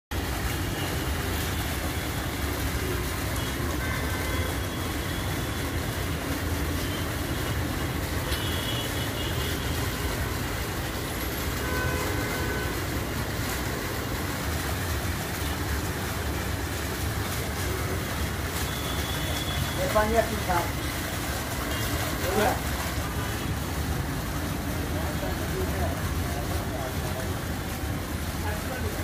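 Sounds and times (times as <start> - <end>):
fountain water spraying and splashing: 0.1 - 29.0.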